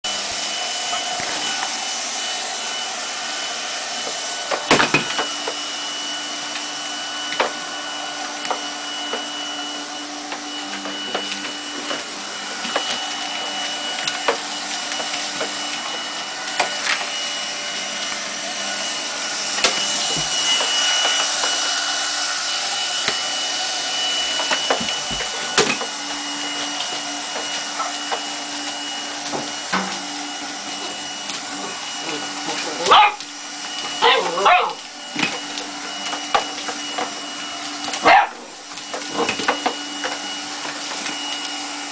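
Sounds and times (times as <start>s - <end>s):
handheld vacuum running: 0.1s - 41.9s.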